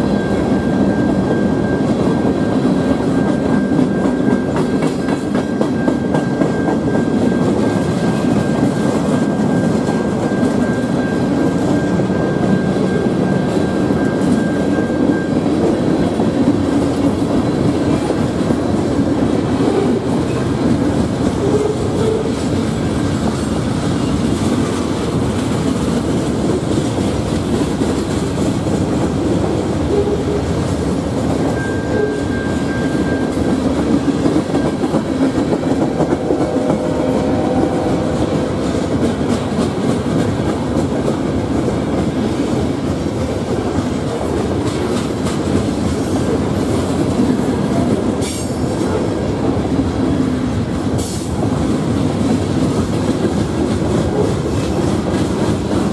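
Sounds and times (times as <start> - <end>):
freight train rumbling by: 0.0 - 55.9.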